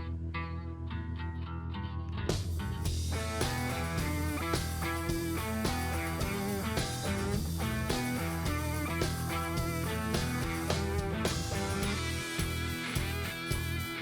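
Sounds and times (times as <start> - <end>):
guitar-led instrumental music: 0.0 - 14.0.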